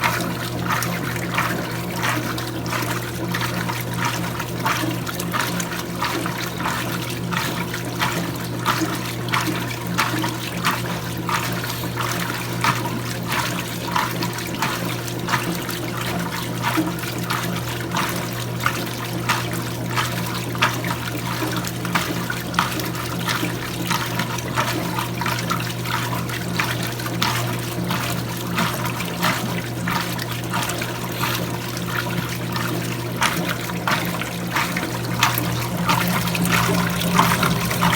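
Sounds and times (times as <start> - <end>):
washing machine motor hum: 0.0 - 37.9
water sloshing and splashing: 0.0 - 37.9.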